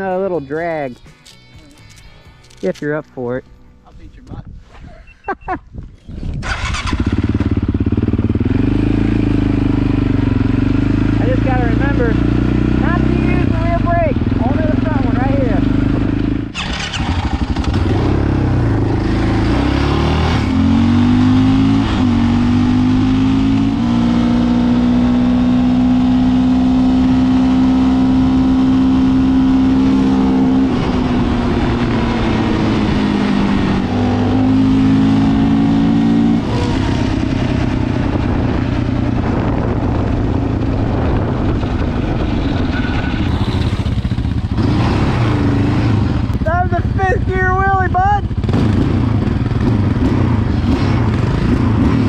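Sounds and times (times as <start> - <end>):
quad engine accelerating: 6.3 - 52.0.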